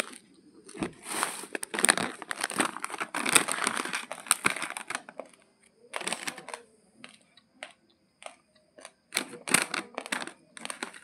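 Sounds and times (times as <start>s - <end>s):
plastic bag crinkling: 0.0s - 7.2s, 8.2s - 11.0s.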